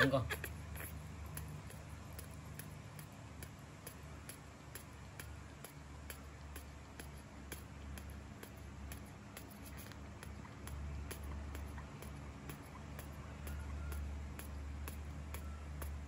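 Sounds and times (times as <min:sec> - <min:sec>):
faint regular ticking: 0:00.0 - 0:16.0
low steady hum: 0:00.0 - 0:16.0.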